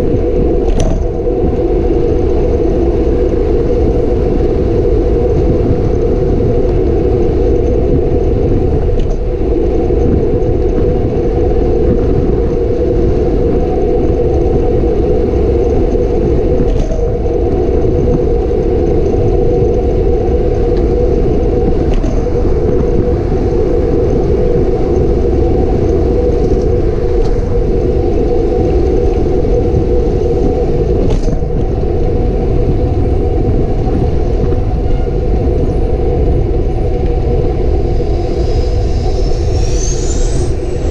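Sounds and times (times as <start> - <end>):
road rumble: 0.0 - 40.9
wind rush: 0.0 - 40.9.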